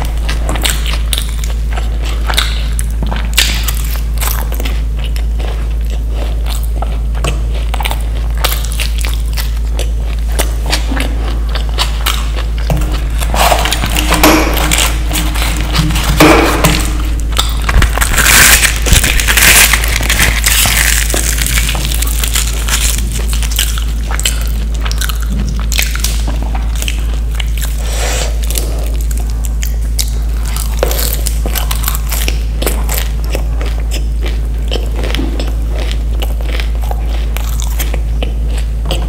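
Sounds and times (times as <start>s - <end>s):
chewing food with crunches: 0.0s - 39.0s
steady low hum: 0.0s - 39.0s.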